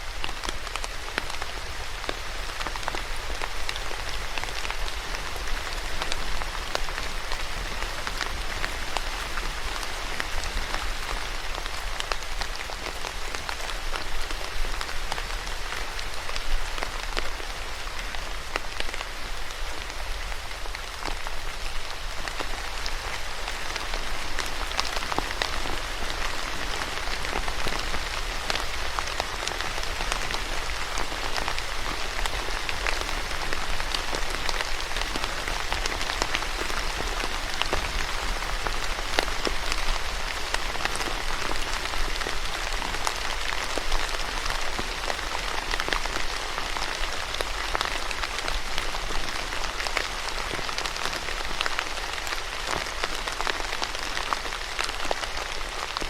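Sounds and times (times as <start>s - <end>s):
rain on hard surface: 0.0s - 56.0s.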